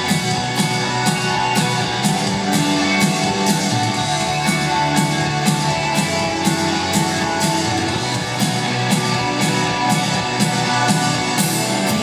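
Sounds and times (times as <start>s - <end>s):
drums beating: 0.0s - 12.0s
rock band playing live: 0.0s - 12.0s.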